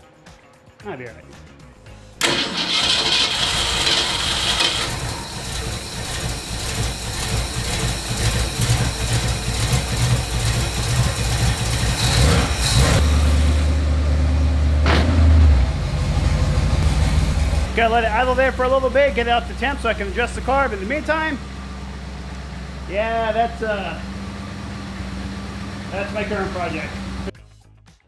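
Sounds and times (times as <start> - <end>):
car engine idling: 2.2 - 27.3.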